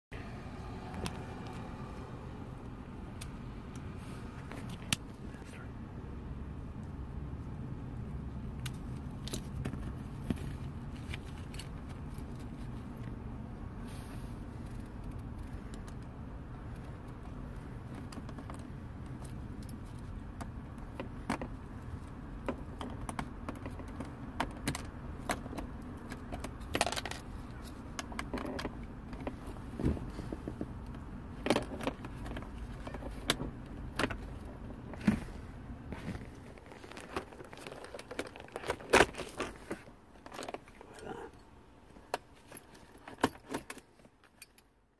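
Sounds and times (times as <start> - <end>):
low steady hum: 0.1 - 44.9.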